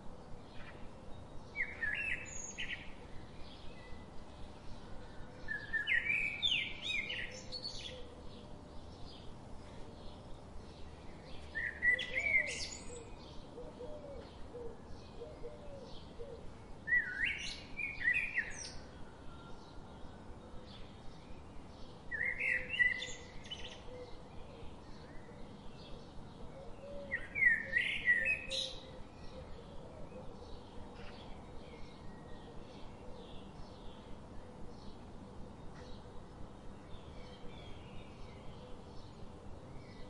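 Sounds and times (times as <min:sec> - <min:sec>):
bird song phrase: 0:00.2 - 0:40.0.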